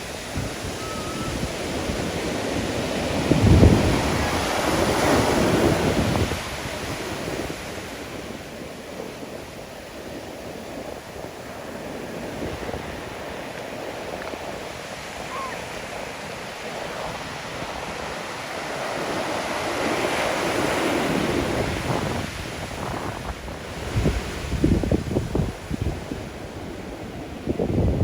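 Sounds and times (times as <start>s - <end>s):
surf washing onto beach: 0.0s - 28.0s
wind on microphone: 0.0s - 28.0s.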